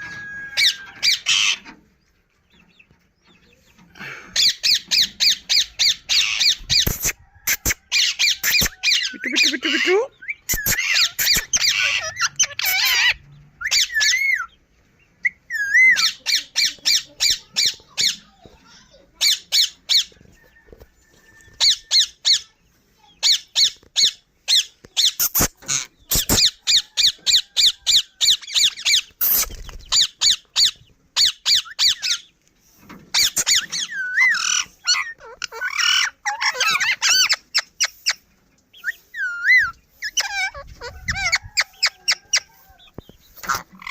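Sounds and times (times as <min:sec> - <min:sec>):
parrot chicks squawking: 0:00.0 - 0:20.6, 0:21.2 - 0:43.9.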